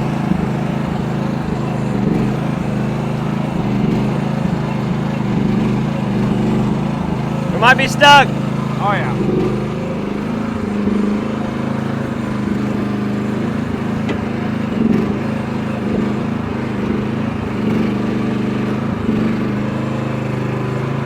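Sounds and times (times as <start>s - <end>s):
mini excavator engine running: 0.0s - 21.0s.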